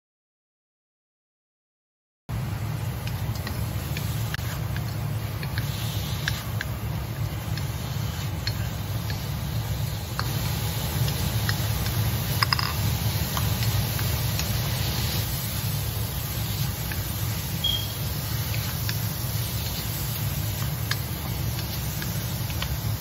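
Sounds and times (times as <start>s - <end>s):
faint sizzling: 2.3s - 23.0s
steady low hum: 2.3s - 23.0s
spatula stirring vegetables in wok: 2.4s - 23.0s.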